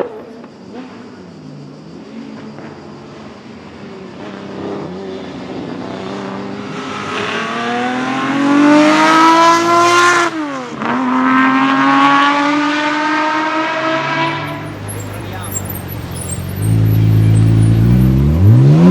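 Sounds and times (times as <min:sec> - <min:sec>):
racing car engine accelerating: 0:02.0 - 0:18.9.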